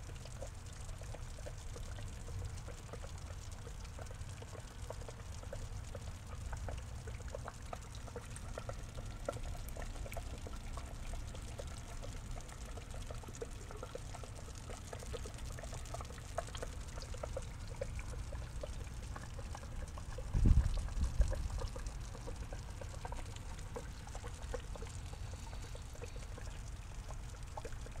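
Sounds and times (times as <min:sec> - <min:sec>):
water dripping into pond: 0:00.0 - 0:28.0.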